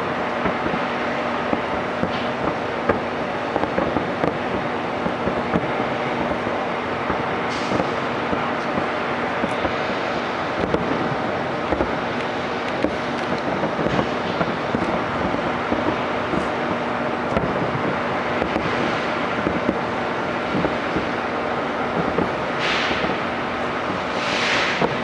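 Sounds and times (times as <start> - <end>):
fireworks bangs and crackles: 0.0 - 25.0
steady rushing din: 0.0 - 25.0.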